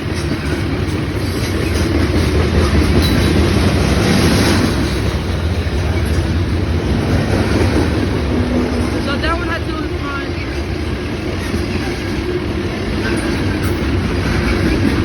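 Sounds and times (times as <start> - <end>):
steel wheels clattering on rails: 0.0 - 15.0.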